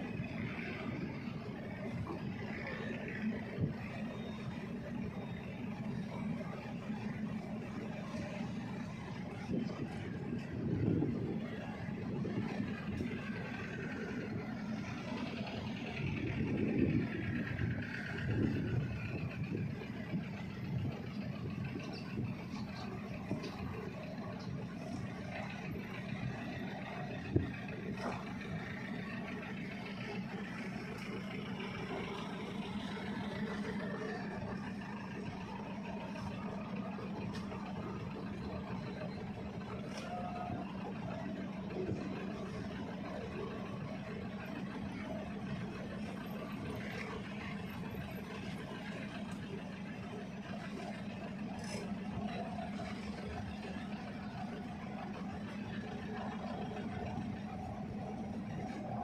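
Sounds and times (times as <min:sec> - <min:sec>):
faint engine whine: 0:00.0 - 0:59.0
ferry engines rumbling: 0:00.0 - 0:59.0.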